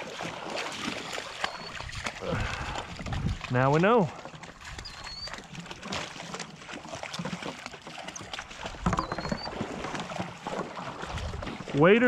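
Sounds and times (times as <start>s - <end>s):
dog splashing in water: 0.0s - 12.0s
legs sloshing through water: 0.0s - 12.0s.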